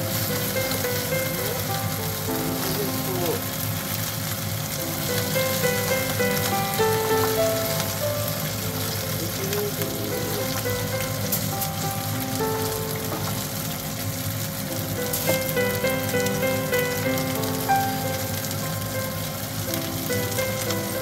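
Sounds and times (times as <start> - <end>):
fish fillets sizzling in hot oil: 0.0 - 21.0
light background music: 0.0 - 21.0.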